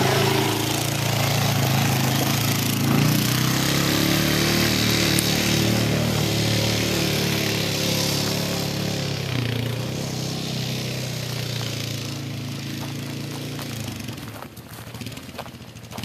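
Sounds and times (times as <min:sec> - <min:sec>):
quad engine revving: 0:00.0 - 0:16.0.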